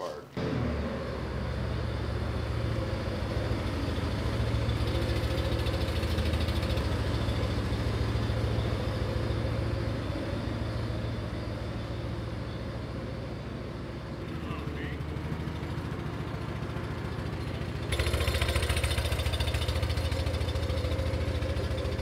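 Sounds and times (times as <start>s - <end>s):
forklift engine humming: 0.0s - 22.0s.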